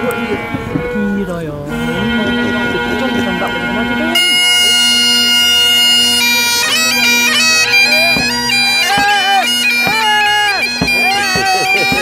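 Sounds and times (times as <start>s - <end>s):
bagpipes playing: 0.0s - 12.0s.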